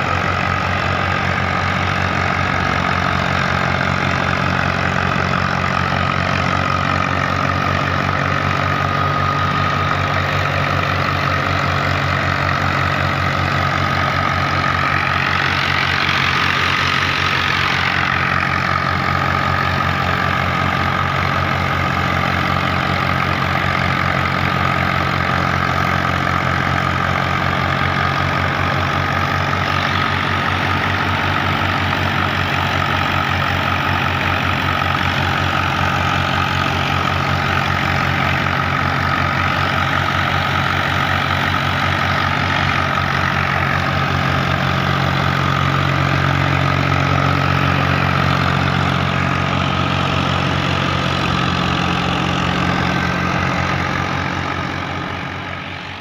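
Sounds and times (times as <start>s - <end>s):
diesel tractor engine running: 0.0s - 56.0s
wheat thresher running: 0.0s - 56.0s.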